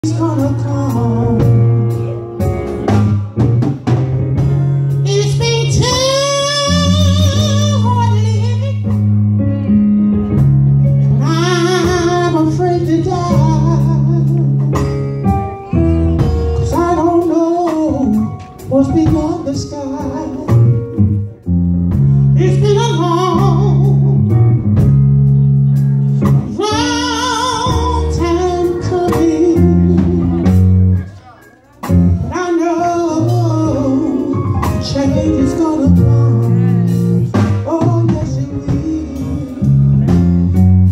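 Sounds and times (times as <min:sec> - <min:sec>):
man singing: 0:00.0 - 0:02.2, 0:04.9 - 0:09.0, 0:11.0 - 0:14.8, 0:15.7 - 0:24.4, 0:26.2 - 0:40.9
instrumental accompaniment with bass: 0:00.0 - 0:40.9.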